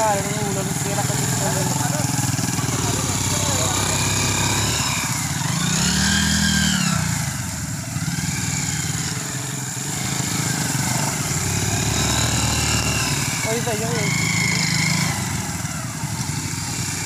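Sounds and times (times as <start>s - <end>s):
small motorcycle engines running: 0.0s - 17.0s.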